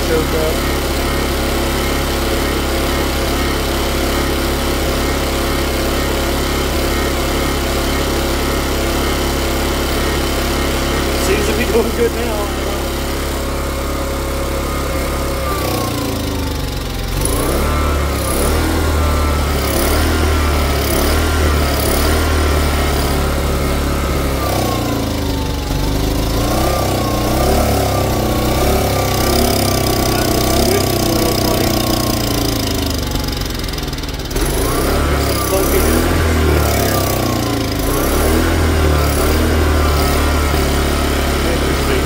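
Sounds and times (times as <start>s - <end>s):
generator engine speed wandering: 0.0s - 42.0s.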